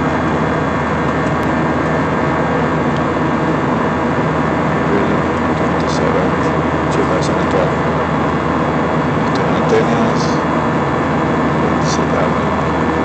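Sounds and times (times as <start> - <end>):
faint steady hum: 0.0 - 13.0
jet cabin engine rush: 0.0 - 13.0.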